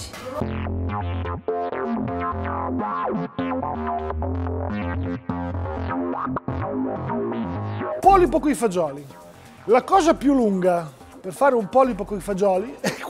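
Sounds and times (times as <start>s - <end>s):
instrumental music with bass line: 0.1s - 13.0s.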